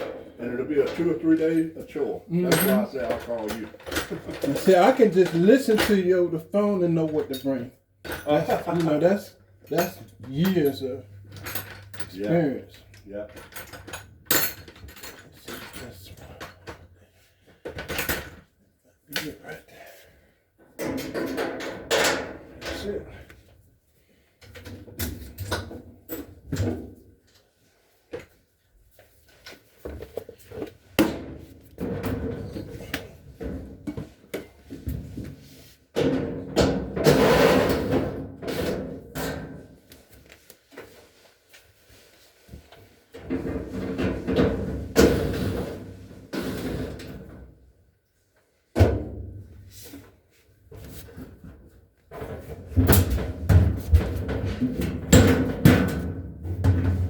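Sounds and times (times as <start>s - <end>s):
knocks and clatter of dryer parts: 0.0s - 1.7s, 2.4s - 18.5s, 20.6s - 23.3s, 24.4s - 27.1s, 29.4s - 39.9s, 42.4s - 47.7s, 48.7s - 57.0s.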